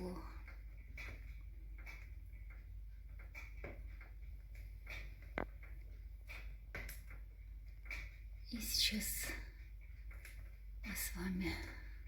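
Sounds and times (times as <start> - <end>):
firewood crackling in a stove: 0.0 - 12.0.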